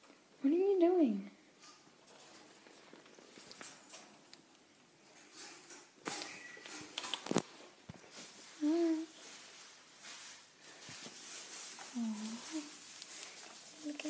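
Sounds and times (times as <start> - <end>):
rustling noise: 1.5 - 14.0.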